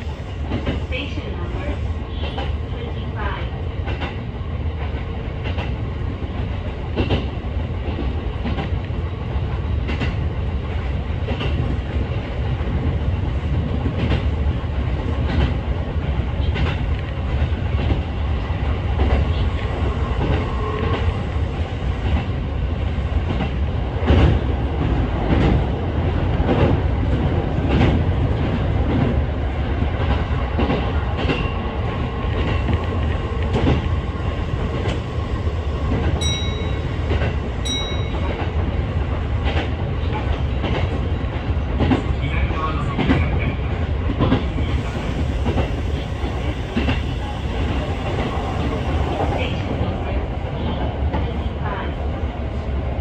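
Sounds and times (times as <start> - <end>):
train low rumble: 0.0 - 53.0.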